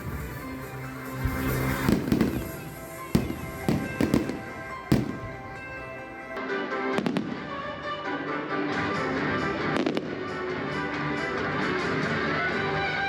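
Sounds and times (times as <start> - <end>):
fireworks bangs and crackles: 0.0 - 8.2, 8.8 - 12.0
music: 0.0 - 13.0.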